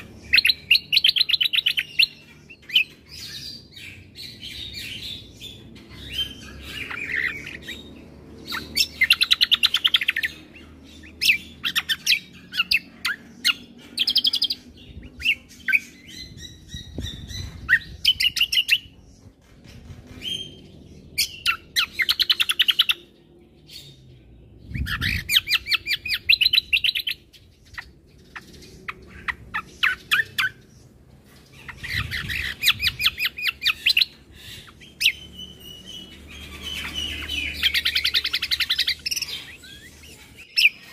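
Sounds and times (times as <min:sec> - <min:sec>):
bird singing chattering trills: 0:00.0 - 0:40.9.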